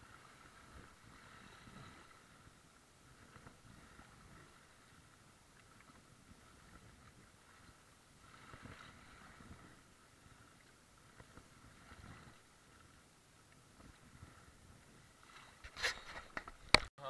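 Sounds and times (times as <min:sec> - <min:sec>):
paddle strokes in water: 0:00.0 - 0:16.8
water splashing: 0:03.0 - 0:16.8.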